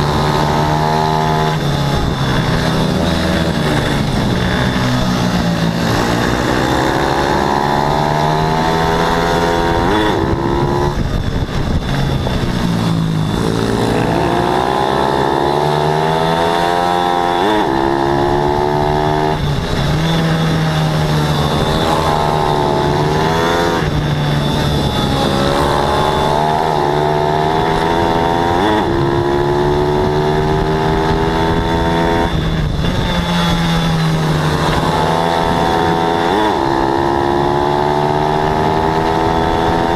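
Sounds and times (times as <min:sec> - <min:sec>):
motorbike engine revving: 0:00.0 - 0:39.9
second motorbike steady engine: 0:00.0 - 0:39.9.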